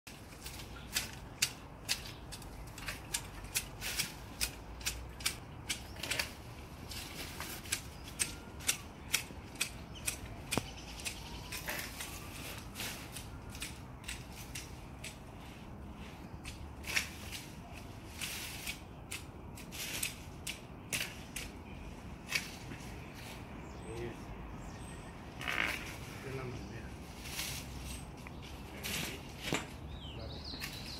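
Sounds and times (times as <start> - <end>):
hedge shears snipping branches: 0.1 - 23.4, 27.2 - 30.9.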